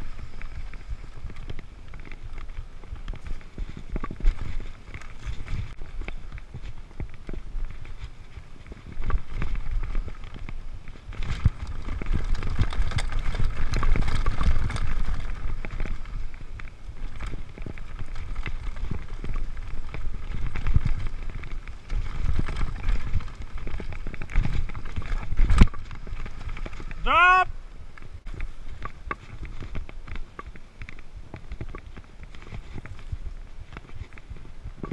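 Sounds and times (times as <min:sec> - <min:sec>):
bike chain and frame rattling: 0:00.0 - 0:27.1, 0:27.8 - 0:34.9
tyres rumbling on dirt: 0:00.0 - 0:34.9
wind on microphone: 0:00.0 - 0:34.9.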